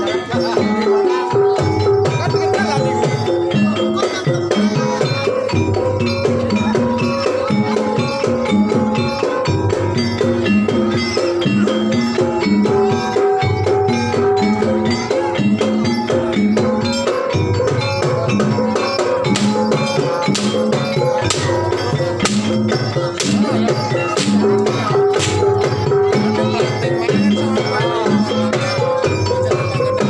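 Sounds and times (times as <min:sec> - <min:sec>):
drumming: 0:00.0 - 0:30.0
pitched gamelan notes: 0:00.0 - 0:30.0
rattling percussion: 0:00.0 - 0:30.0.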